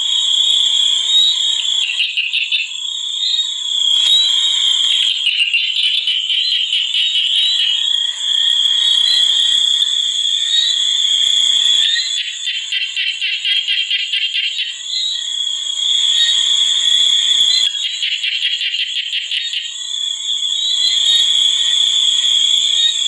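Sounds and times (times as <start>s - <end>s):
chorus of frogs and insects: 0.0s - 23.0s.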